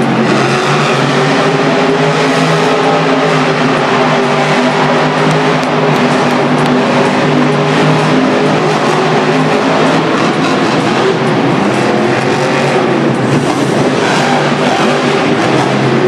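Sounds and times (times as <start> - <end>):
loud engine running: 0.0 - 16.0.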